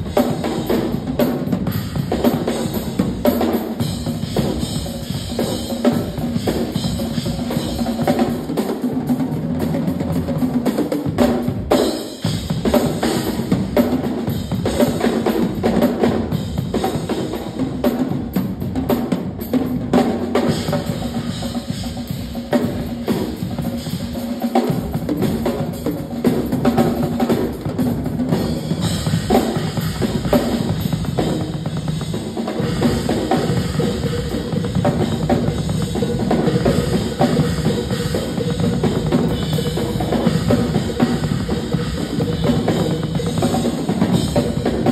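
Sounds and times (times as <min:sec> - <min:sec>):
two drum kits playing: 0:00.0 - 0:44.9.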